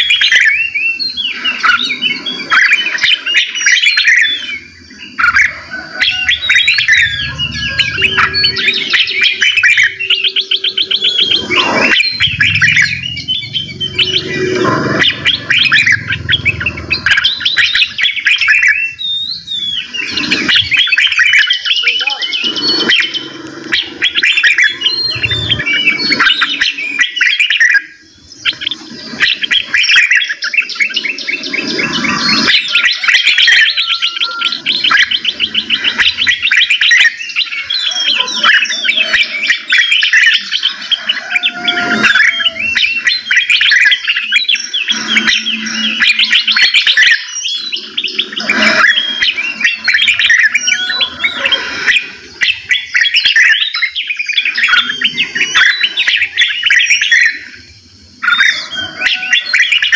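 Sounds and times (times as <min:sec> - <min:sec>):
songbirds trilling and chirping: 0:00.0 - 0:59.9.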